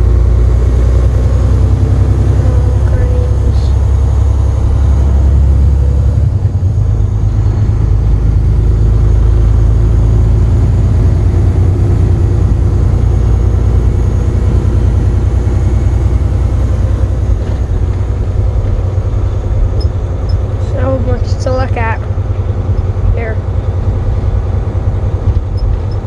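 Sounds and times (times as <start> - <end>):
truck diesel engine rumble: 0.0 - 26.0.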